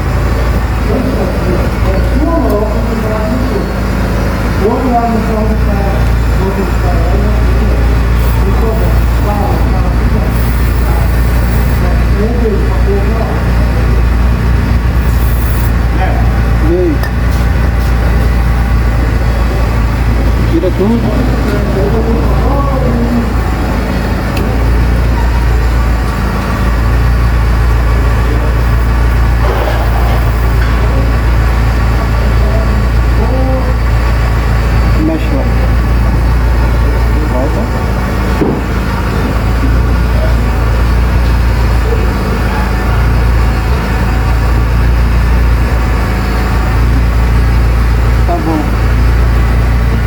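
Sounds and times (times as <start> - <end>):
car engine running: 0.0 - 50.0.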